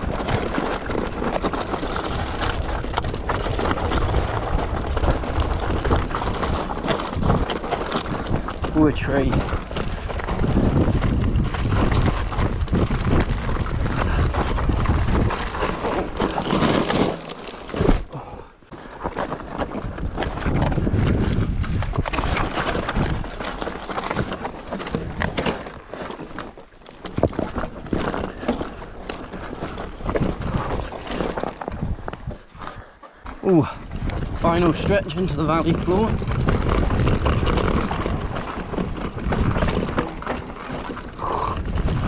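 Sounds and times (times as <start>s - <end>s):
wind rumbling on microphone: 0.0s - 17.2s, 17.8s - 42.0s
bike clattering over rocks: 0.0s - 42.0s.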